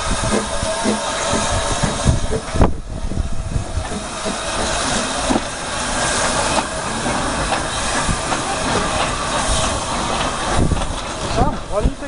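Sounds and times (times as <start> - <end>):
loud hiss of steam: 0.0 - 12.0
steam locomotive pulling away: 0.0 - 12.0.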